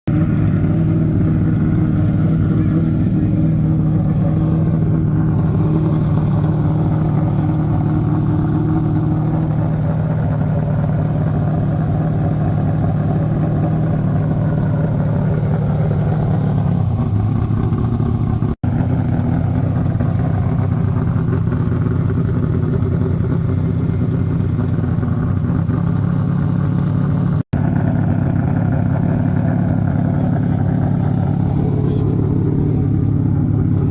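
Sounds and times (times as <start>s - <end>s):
race car engine idling: 0.0s - 33.9s.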